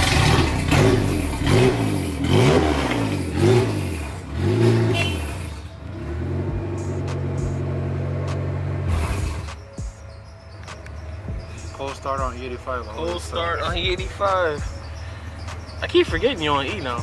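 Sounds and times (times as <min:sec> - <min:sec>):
car engine revving and idling: 0:00.0 - 0:10.1, 0:10.7 - 0:17.0.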